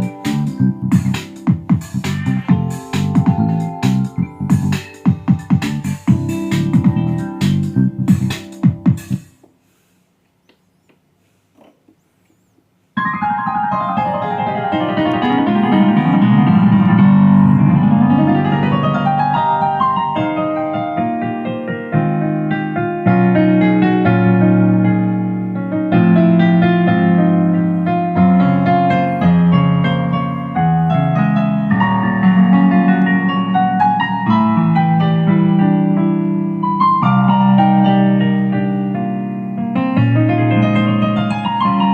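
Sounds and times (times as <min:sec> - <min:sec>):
keyboard playing piano music: 0:00.0 - 0:09.4, 0:13.0 - 0:41.9.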